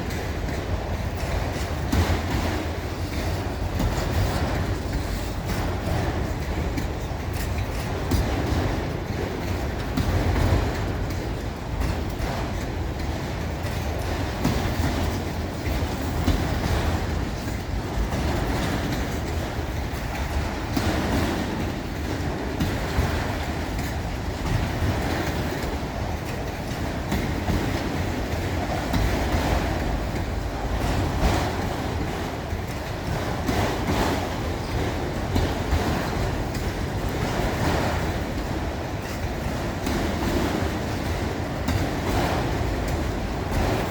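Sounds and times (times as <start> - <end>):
clickety-clack over rail joints: 0.0 - 43.9
train wheels rumbling on rails: 0.0 - 43.9.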